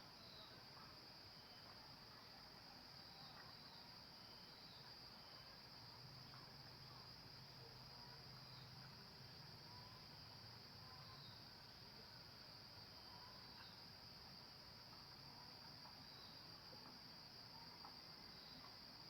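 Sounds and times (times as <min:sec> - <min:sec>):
faint insect trill: 0:00.0 - 0:19.0.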